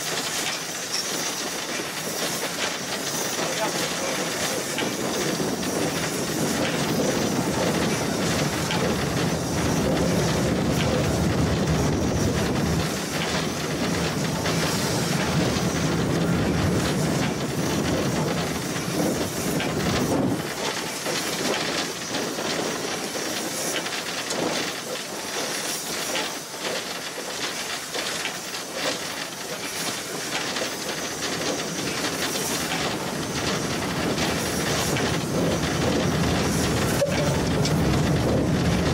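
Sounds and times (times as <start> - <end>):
steam hiss: 0.0 - 38.9
wheels rumbling on track: 0.0 - 38.9.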